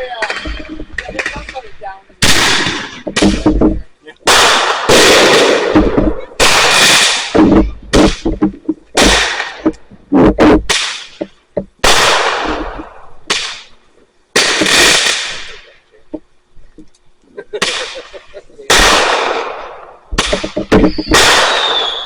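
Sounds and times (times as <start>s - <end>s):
fireworks banging and crackling: 0.0s - 16.2s, 17.5s - 22.0s.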